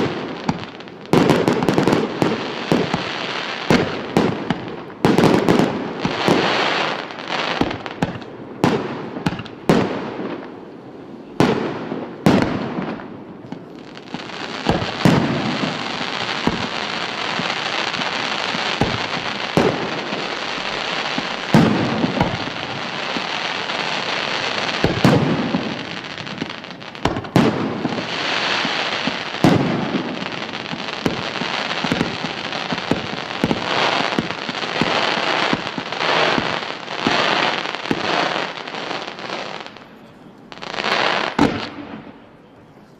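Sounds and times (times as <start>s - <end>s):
firework bangs: 0.0s - 42.4s
firework crackle: 0.0s - 42.4s.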